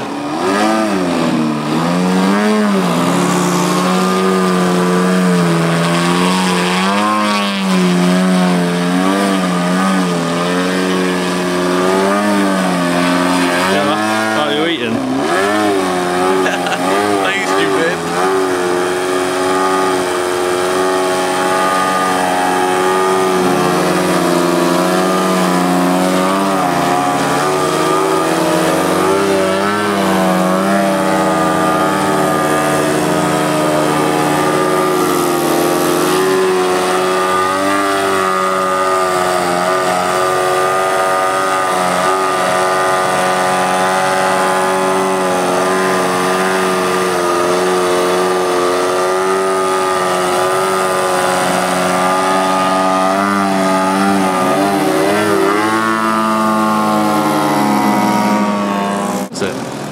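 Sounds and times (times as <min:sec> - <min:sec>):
model plane engine running: 0:00.0 - 0:59.9.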